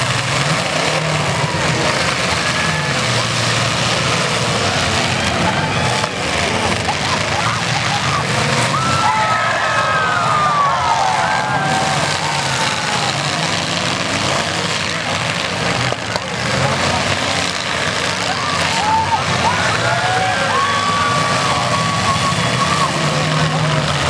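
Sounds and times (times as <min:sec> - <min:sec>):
car engines revving: 0:00.0 - 0:24.0
crowd voices: 0:00.0 - 0:24.0.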